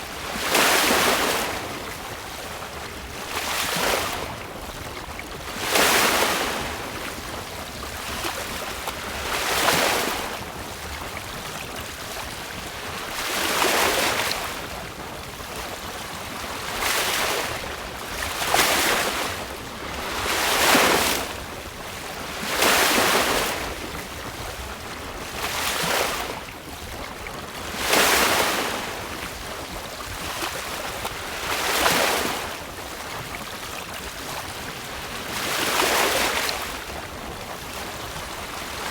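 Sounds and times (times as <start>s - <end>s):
water splashing along hull: 0.0s - 38.9s
wind rumble on microphone: 0.0s - 38.9s.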